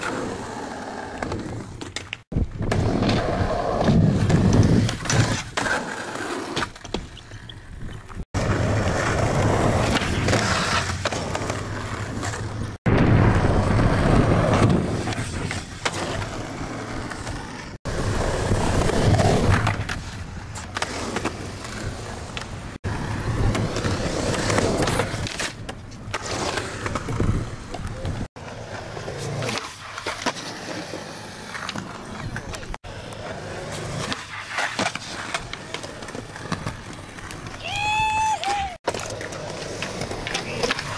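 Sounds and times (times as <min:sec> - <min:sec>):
skateboard popping and landing: 0:00.0 - 0:40.9
skateboard wheels rolling on concrete: 0:00.0 - 0:40.9.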